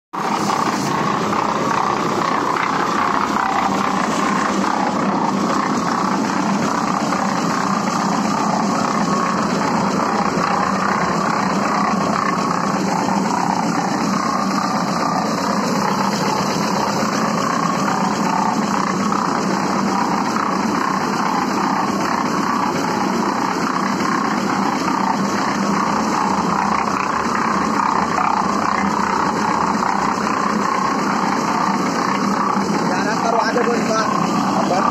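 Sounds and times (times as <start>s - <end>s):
concrete mixer churning mortar: 0.1s - 34.9s.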